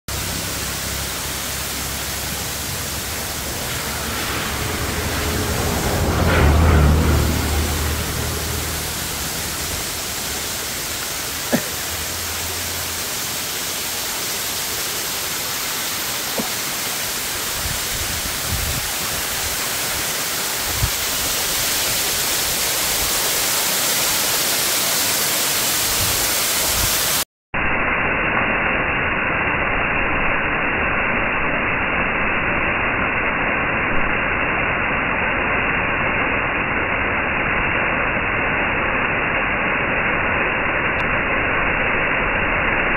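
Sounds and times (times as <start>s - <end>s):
waterfall rushing over rock: 0.1s - 27.3s, 28.4s - 42.9s.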